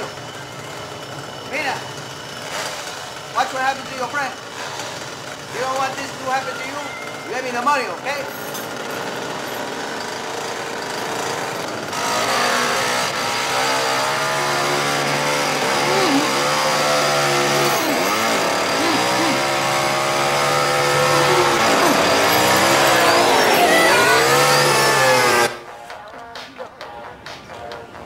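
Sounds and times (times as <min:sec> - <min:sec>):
chainsaw engine revving: 0:00.0 - 0:25.6.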